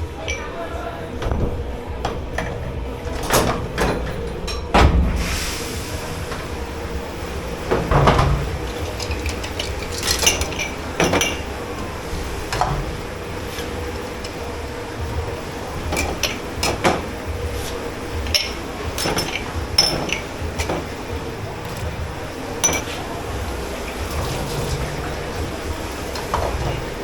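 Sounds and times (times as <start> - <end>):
steady low hum: 0.0 - 27.0
dishes clinking and knocking: 0.2 - 5.3, 7.7 - 13.0, 15.8 - 27.0.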